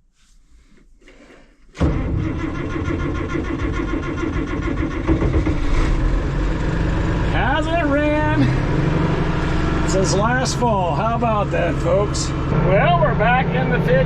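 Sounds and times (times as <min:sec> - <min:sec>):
tractor diesel engine idling: 0:01.8 - 0:14.0.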